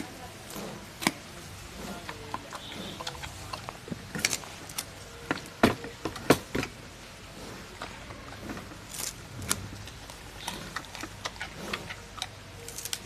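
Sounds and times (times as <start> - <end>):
panda chewing bamboo: 0.0 - 13.0.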